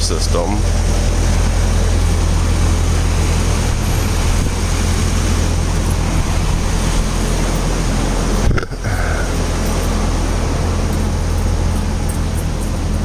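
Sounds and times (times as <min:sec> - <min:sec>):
vehicle engine low rumble: 0:00.0 - 0:13.0.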